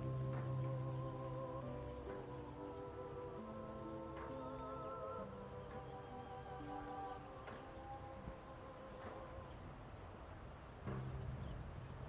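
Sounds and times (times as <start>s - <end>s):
crickets chirring: 0.0s - 12.0s
soft ambient music: 0.0s - 12.0s.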